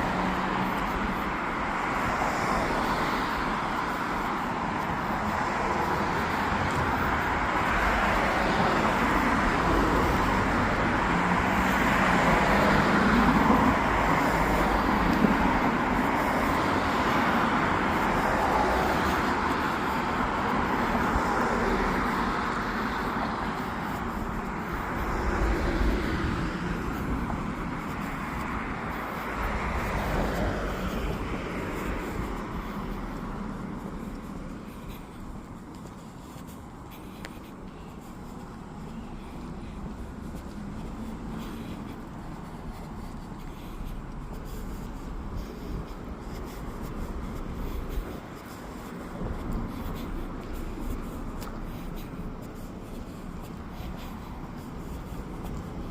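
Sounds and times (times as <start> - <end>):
passing cars hum: 0.0 - 55.9.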